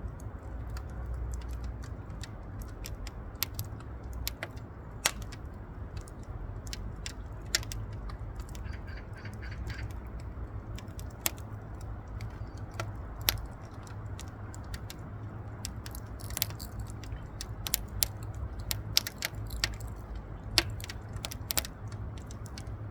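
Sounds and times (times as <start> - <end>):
firewood crackling: 0.0 - 22.9.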